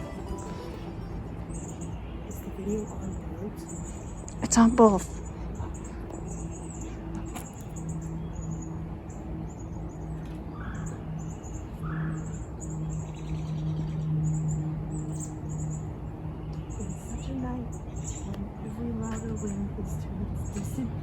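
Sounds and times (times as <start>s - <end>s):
low bird calls: 0.0s - 19.7s
small birds chirping: 0.0s - 21.0s.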